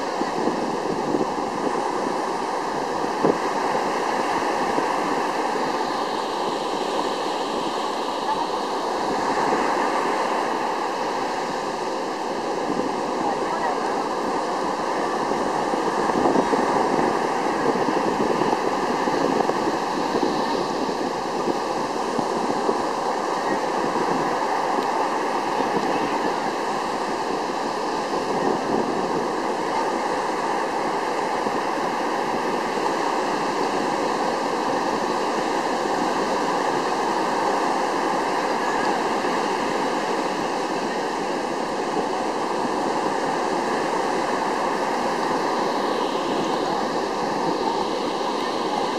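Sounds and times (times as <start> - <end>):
surf washing on shore: 0.0 - 48.9.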